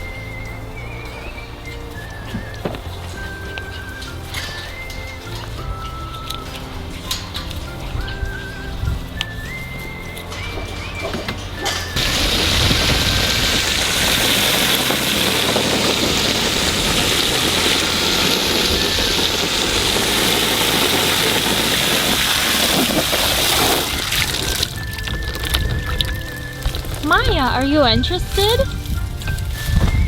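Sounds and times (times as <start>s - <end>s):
hose water running into pool: 0.0s - 30.0s.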